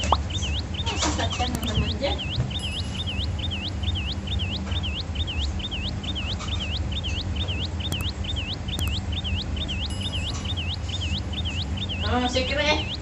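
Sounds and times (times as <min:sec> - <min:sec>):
electronic warning tone chirping: 0:00.0 - 0:13.0
low engine hum: 0:00.0 - 0:13.0.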